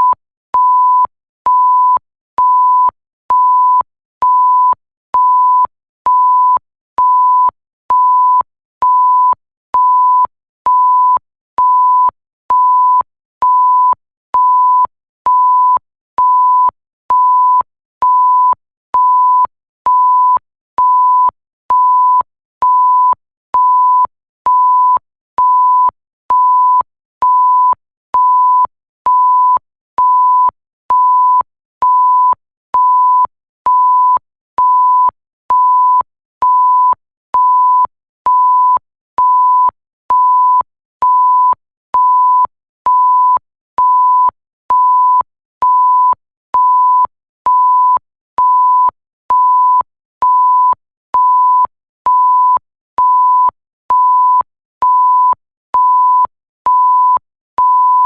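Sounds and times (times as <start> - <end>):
short electronic beeps: 0.0 - 58.0.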